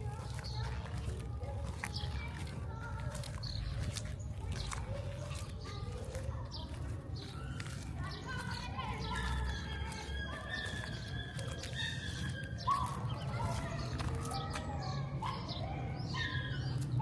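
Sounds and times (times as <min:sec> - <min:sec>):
birds calling: 0:00.0 - 0:17.0
low city rumble: 0:00.0 - 0:17.0
bird chirps: 0:03.3 - 0:17.0.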